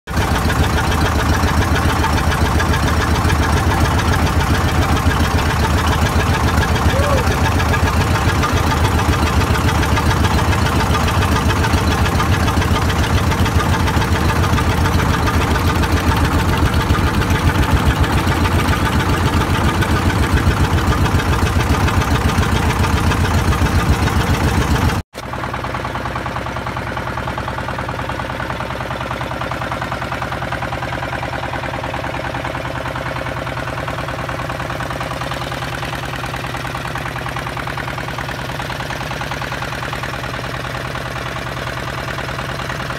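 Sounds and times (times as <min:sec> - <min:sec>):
boat engine running: 0:00.1 - 0:42.9.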